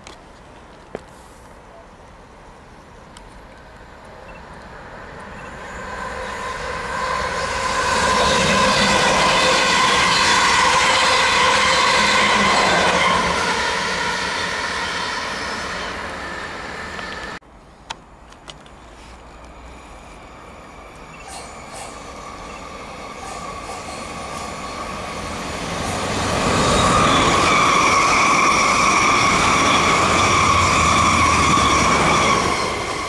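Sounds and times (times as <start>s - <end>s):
electric train whine: 2.3s - 17.4s, 18.7s - 33.0s
train wheels on rails: 3.0s - 17.4s, 18.3s - 33.0s.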